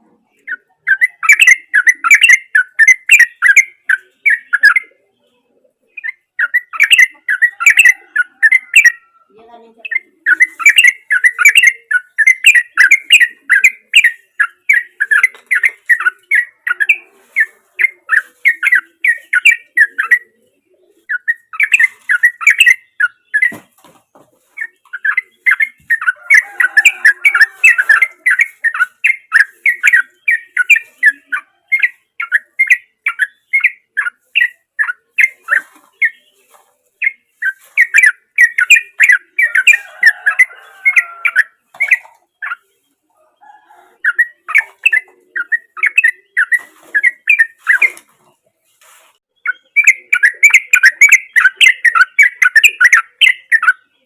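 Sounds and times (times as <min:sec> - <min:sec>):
bird singing rapid repeated notes: 0:00.0 - 0:43.1, 0:44.0 - 0:48.4, 0:49.2 - 0:54.0.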